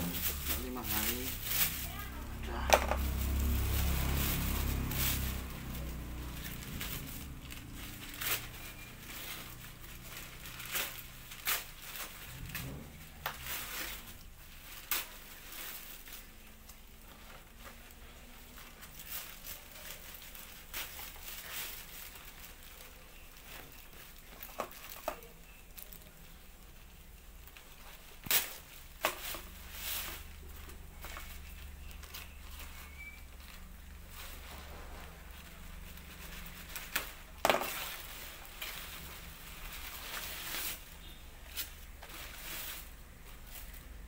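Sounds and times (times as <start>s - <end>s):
plastic and paper crinkling: 0.0s - 44.0s.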